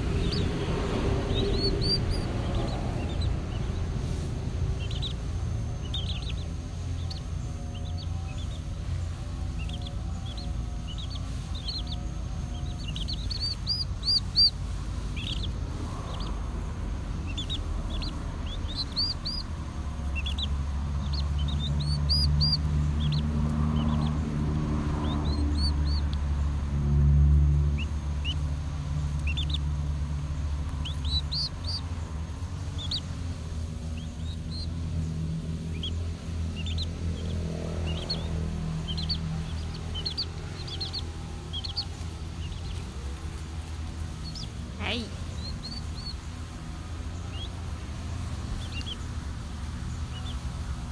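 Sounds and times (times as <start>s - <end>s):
chicks peeping: 0.0s - 50.9s
steady low hum: 0.0s - 50.9s.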